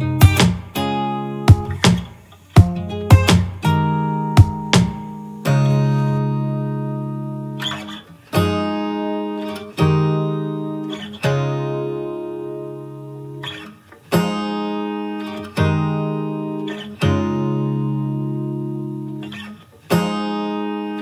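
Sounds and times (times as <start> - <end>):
slow acoustic guitar chords: 0.0 - 21.0.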